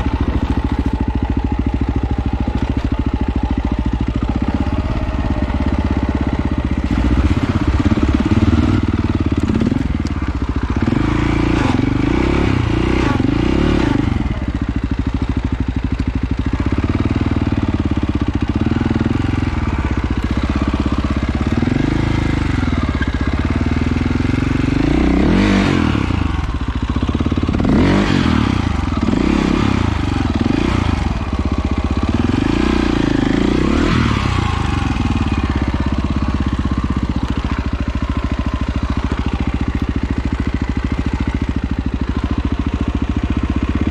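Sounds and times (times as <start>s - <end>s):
off-road motorcycle engine revving: 0.0s - 43.9s.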